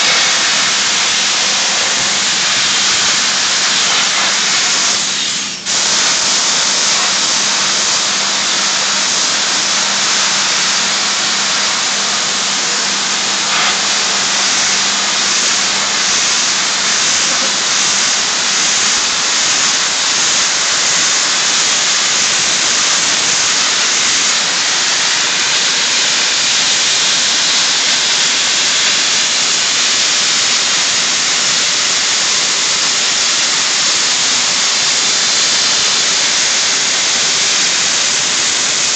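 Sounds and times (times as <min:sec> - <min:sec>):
blaster nozzle hissing: 0:00.0 - 0:38.9.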